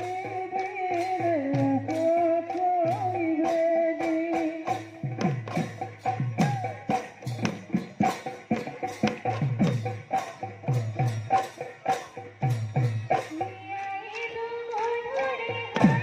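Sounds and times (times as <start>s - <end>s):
dhol drums fast rhythm: 0.0s - 16.0s.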